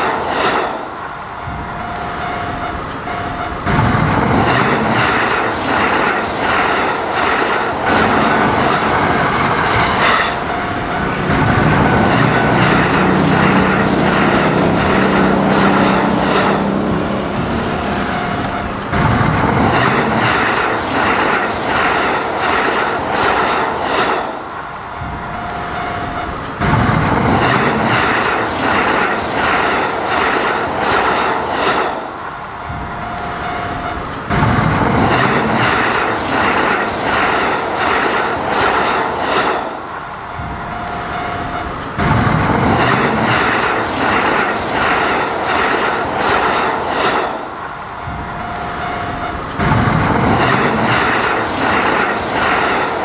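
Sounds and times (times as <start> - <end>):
train wheels clacking on rails: 0.0 - 53.0.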